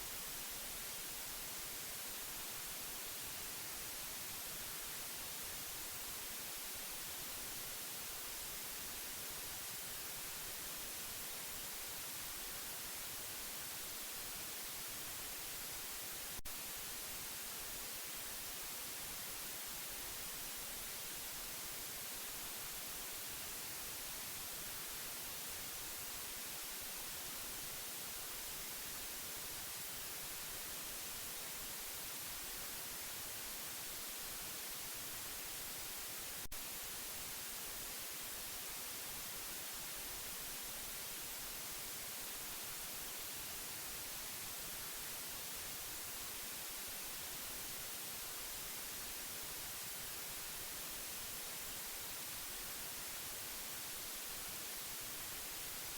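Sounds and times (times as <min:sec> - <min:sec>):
steady white noise hiss: 0:00.0 - 0:55.9.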